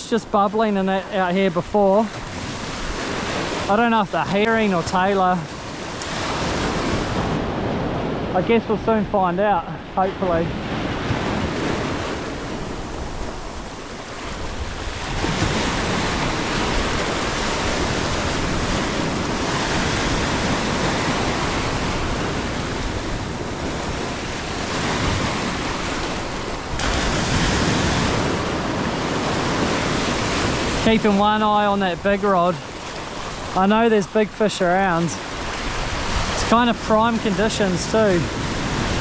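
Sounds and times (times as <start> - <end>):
ocean surf breaking on beach: 0.0 - 39.0.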